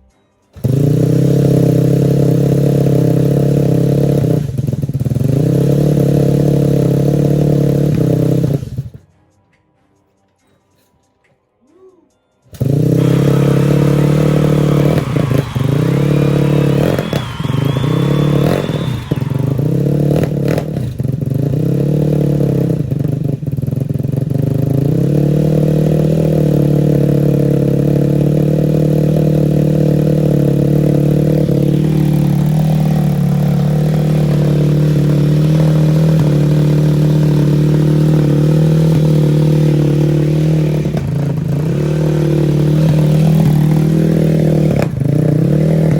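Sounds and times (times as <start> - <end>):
mini bike engine idling unevenly: 0.6 - 9.0, 12.5 - 45.9.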